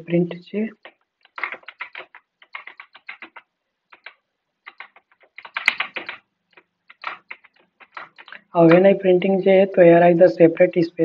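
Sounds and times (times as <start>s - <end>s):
keyboard typing: 0.0s - 9.2s.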